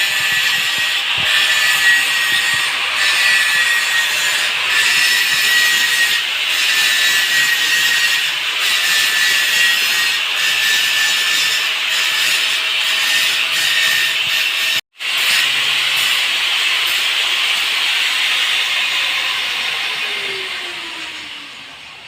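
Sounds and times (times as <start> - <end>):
metal-cutting machine rasping: 0.0 - 22.0.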